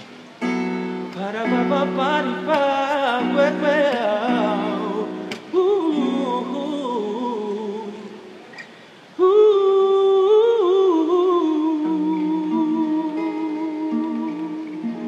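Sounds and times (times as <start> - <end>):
acoustic guitar: 0.0 - 15.0
man humming a melody: 1.0 - 8.3, 9.2 - 15.0.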